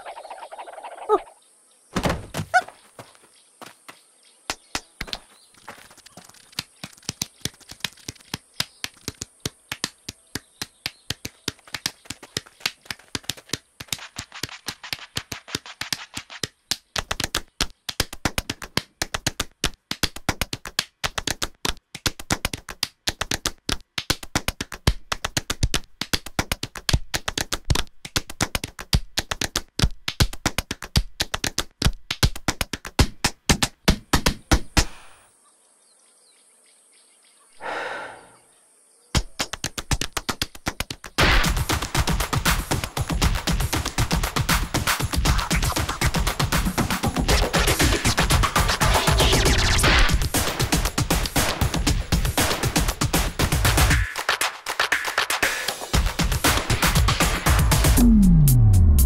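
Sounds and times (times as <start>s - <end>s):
percussive tapping rhythm: 6.3s - 34.9s, 39.2s - 59.0s.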